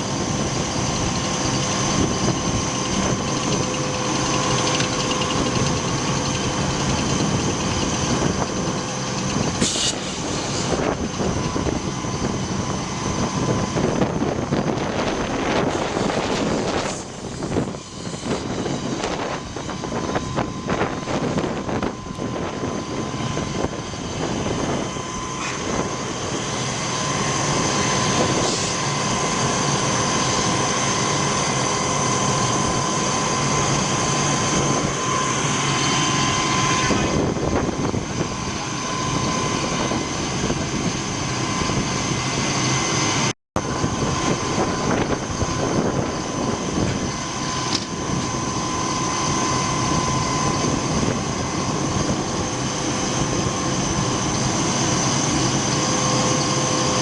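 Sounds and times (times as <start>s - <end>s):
fire engine drone: 0.0s - 57.0s
thin steady whine: 0.0s - 57.0s.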